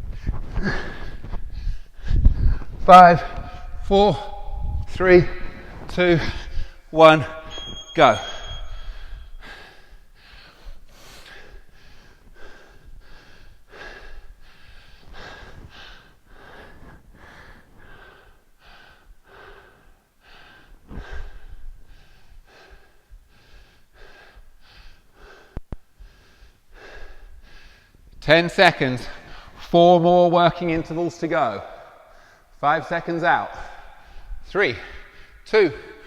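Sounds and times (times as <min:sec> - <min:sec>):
man breathing heavily: 0:00.0 - 0:02.8, 0:03.4 - 0:07.0, 0:07.9 - 0:28.1, 0:31.7 - 0:32.6, 0:33.5 - 0:36.0.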